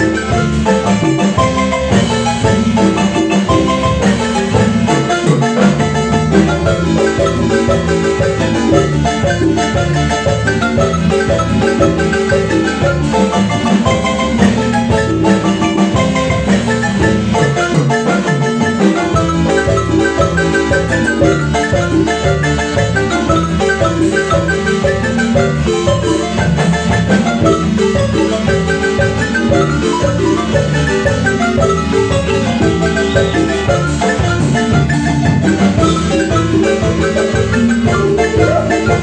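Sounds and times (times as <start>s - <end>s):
marimba music: 0.0s - 39.0s
pulsing bass line: 0.0s - 39.0s.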